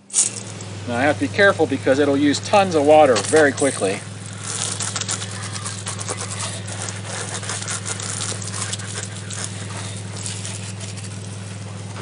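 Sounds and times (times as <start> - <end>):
hose water spraying on bike: 0.0 - 12.0
steady low hum: 0.0 - 12.0.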